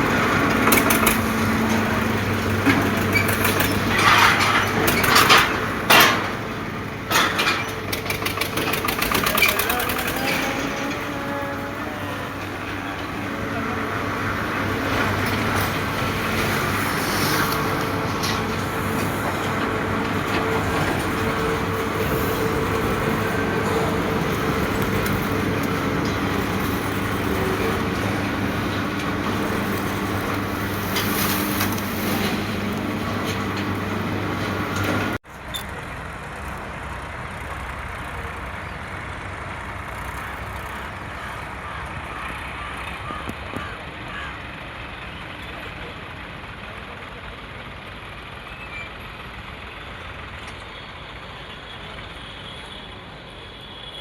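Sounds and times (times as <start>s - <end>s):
quieter engine noise: 0.0s - 52.3s
tractor diesel engine droning: 0.0s - 54.0s.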